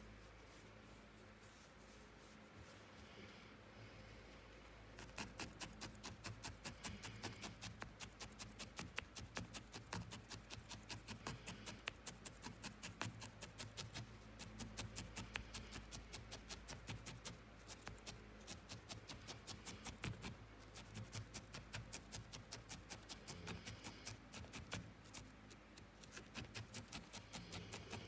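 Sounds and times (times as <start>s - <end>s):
felting needle poking wool: 4.9s - 28.0s.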